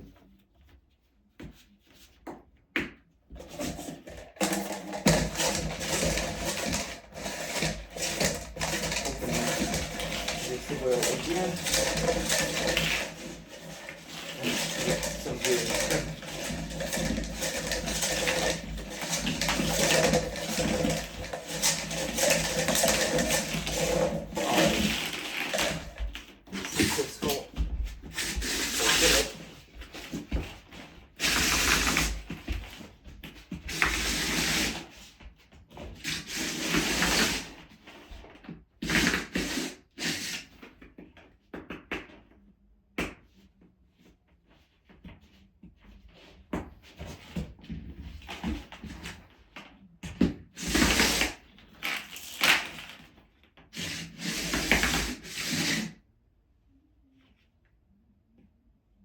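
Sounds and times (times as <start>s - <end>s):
plastic rubbing and scraping: 3.3s - 40.6s, 46.0s - 56.0s.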